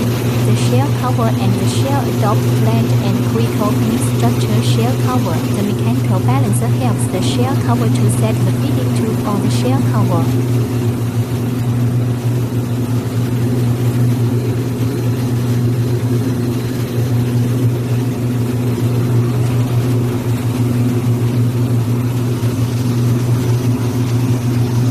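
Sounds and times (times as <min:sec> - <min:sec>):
machinery humming: 0:00.0 - 0:24.9.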